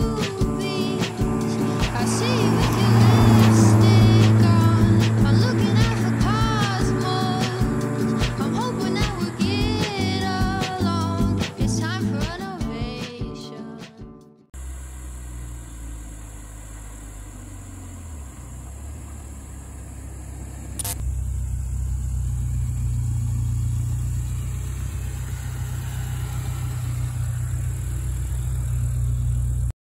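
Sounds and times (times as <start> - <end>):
car engine idling: 0.0 - 12.4, 14.6 - 29.7.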